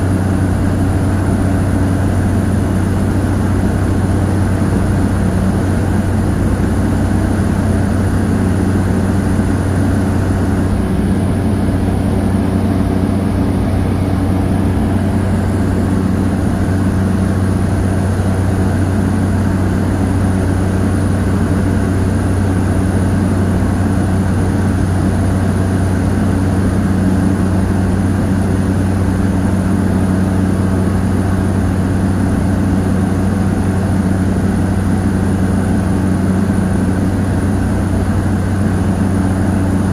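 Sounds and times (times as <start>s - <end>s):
turboprop engine drone in cabin: 0.0s - 39.9s.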